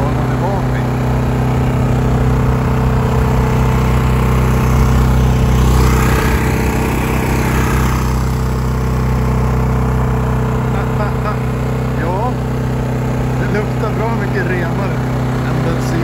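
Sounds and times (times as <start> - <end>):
generator engine humming: 0.0 - 16.0.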